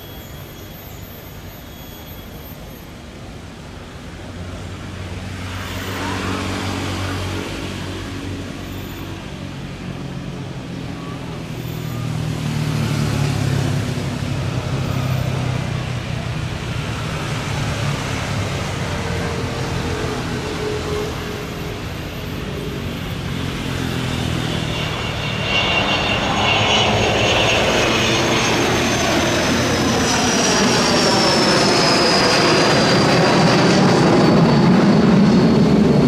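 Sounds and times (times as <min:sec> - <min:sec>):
jet engines at high power: 0:00.0 - 0:36.0.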